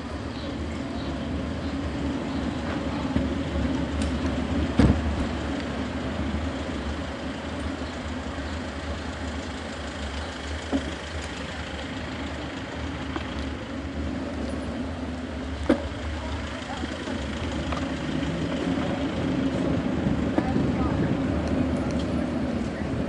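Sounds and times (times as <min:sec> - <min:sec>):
bicycle rolling over pavement: 0:00.0 - 0:23.0
street traffic engines: 0:00.0 - 0:23.0.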